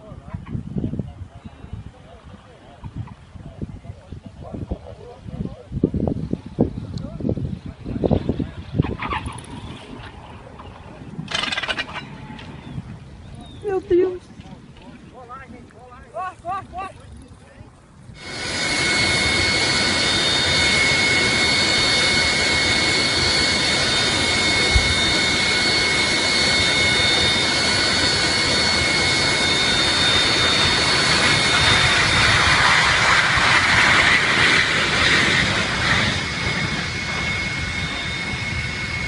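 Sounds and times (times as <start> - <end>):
jet engine whine: 0.0 - 39.0
jet engines roaring: 0.0 - 39.0.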